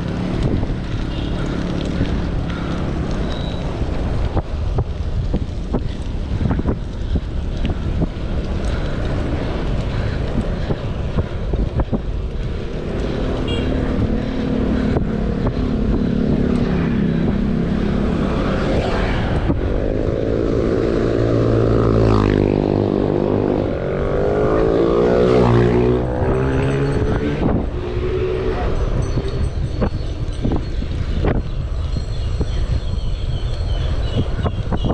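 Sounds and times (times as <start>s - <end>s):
passing vehicle engine hum: 0.0s - 30.5s
wind buffeting microphone: 0.0s - 34.9s.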